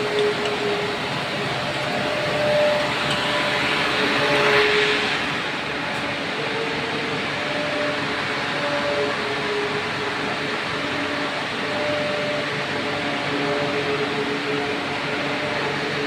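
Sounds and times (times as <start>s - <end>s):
induction furnace running noise: 0.0s - 16.0s.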